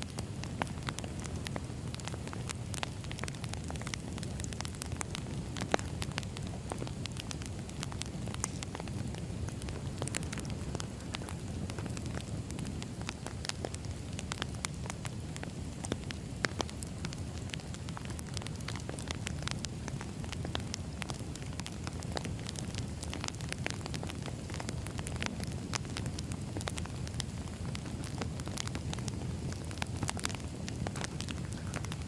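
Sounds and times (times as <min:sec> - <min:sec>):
firewood crackling and popping: 0:00.0 - 0:32.0
low rumble of flames: 0:00.0 - 0:32.0.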